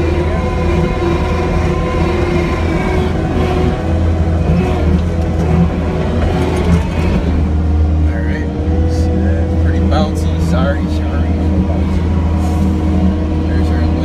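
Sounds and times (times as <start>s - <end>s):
diesel engine running: 0.0s - 14.0s
steady whining tones: 0.0s - 14.0s.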